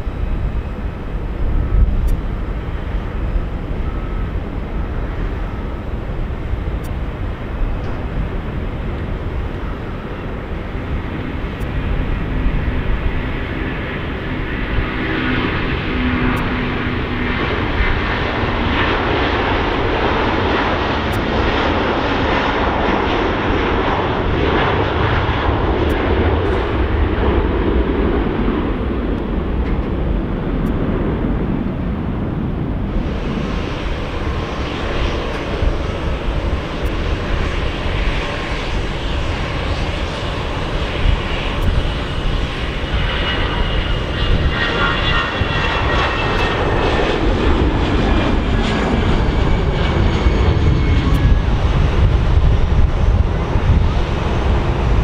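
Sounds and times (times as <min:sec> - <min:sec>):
jet engines at takeoff thrust: 0:00.0 - 0:55.0
jet engines running on runway: 0:00.0 - 0:55.0
turbine whine: 0:00.0 - 0:55.0.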